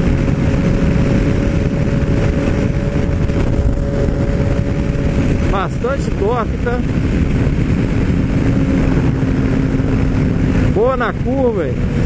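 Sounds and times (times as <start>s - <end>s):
motorcycle engine pulling steadily: 0.0s - 12.0s
wind and road rush: 0.0s - 12.0s.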